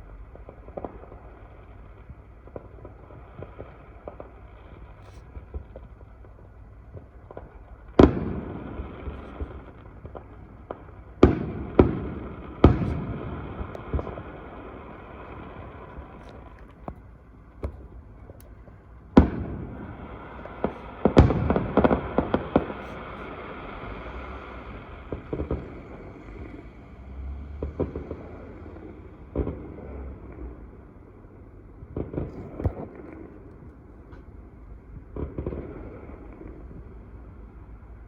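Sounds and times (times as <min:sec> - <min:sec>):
fireworks bangs: 0:00.0 - 0:37.6
fireworks crackling: 0:00.0 - 0:38.0.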